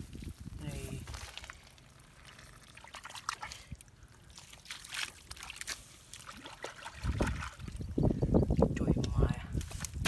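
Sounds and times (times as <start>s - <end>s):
muddy water trickling and sloshing: 0.0s - 10.0s
wet squelches in mud: 0.0s - 10.0s.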